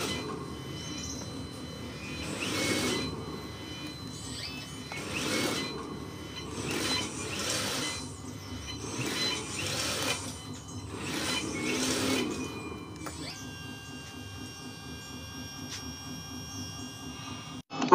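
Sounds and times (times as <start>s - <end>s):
small electric motor whine: 0.0s - 17.9s.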